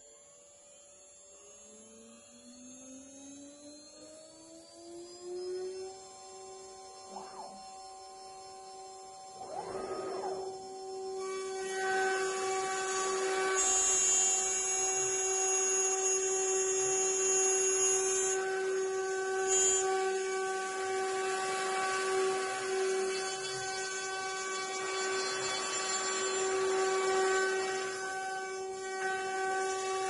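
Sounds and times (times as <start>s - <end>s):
higher-pitched whine: 1.0s - 30.0s
router spindles whining into wood: 1.0s - 30.0s.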